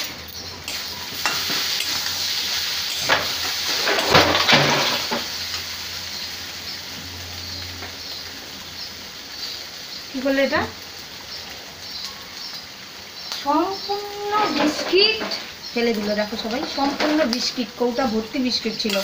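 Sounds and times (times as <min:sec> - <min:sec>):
leaves sizzling in oil: 0:00.0 - 0:19.0.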